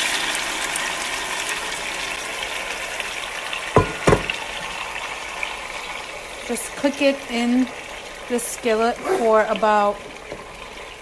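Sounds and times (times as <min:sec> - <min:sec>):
chicken sizzling in skillet: 0:00.0 - 0:11.0.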